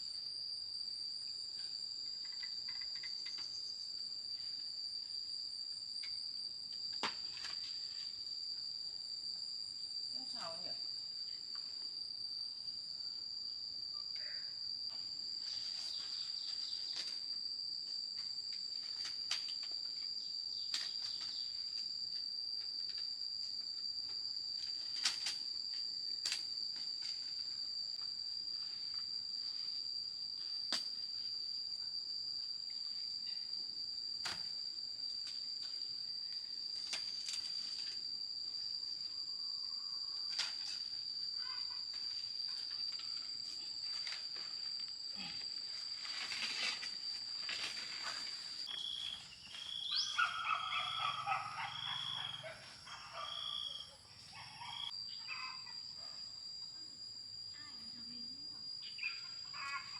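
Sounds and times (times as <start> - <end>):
insects shrilling: 1.6 - 59.9.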